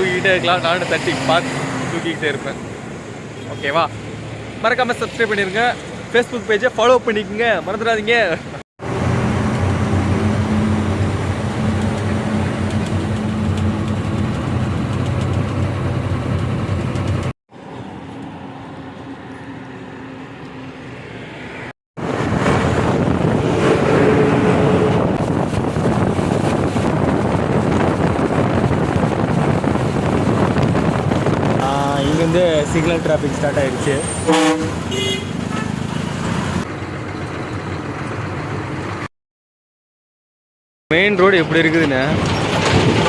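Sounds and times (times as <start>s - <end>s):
road and traffic noise: 0.0s - 39.1s, 40.9s - 43.0s.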